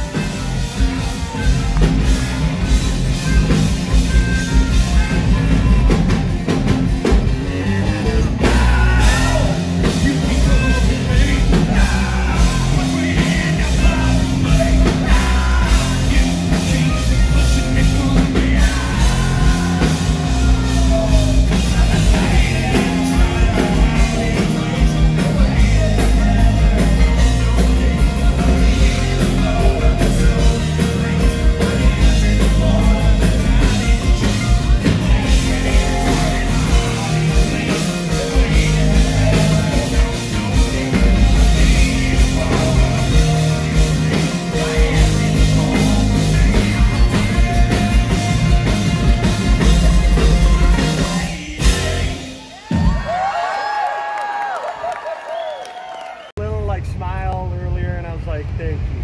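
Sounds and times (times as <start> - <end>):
live rock band with singing: 0.0 - 54.9.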